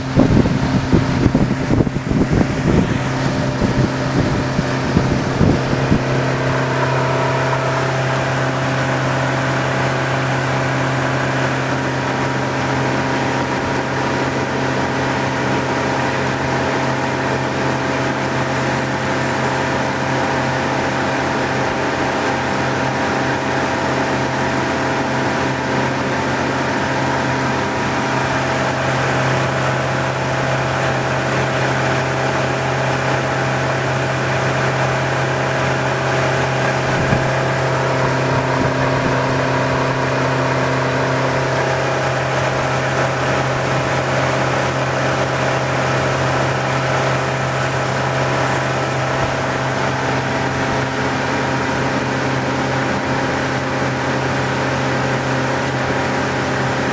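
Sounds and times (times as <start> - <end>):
boat motor droning: 0.0 - 56.9.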